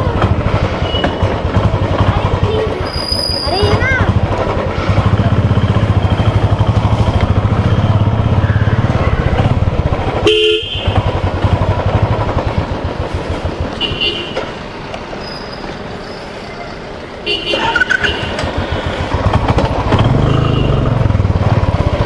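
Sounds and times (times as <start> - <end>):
motorcycle engine running: 0.0 - 15.3, 18.1 - 22.0.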